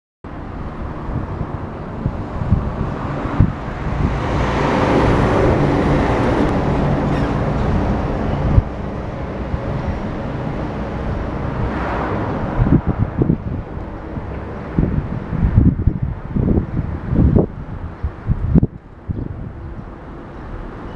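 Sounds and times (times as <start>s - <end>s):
vehicle passing: 0.4s - 17.8s.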